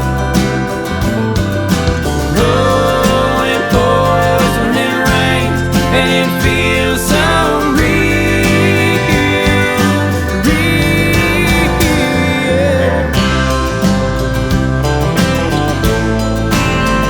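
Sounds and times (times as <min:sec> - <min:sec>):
country music with guitars: 0:00.0 - 0:17.0.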